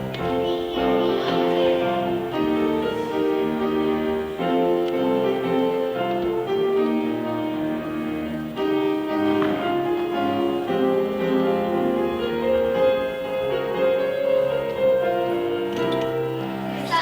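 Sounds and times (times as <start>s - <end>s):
piano playing chords and melody: 0.0s - 17.0s.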